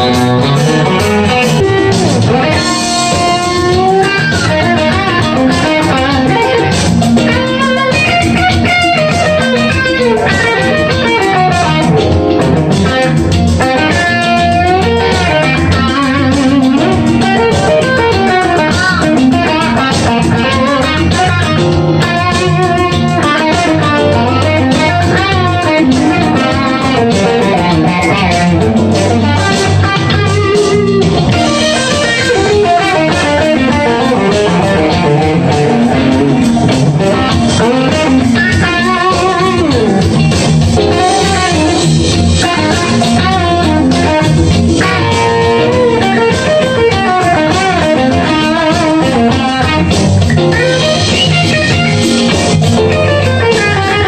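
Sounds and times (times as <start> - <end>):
electric guitar lead lines: 0.0 - 54.0.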